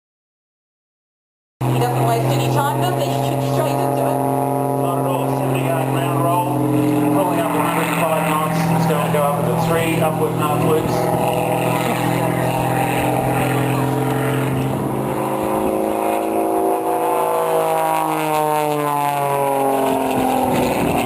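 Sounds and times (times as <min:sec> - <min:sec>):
plane engine running hard: 0:01.6 - 0:21.0.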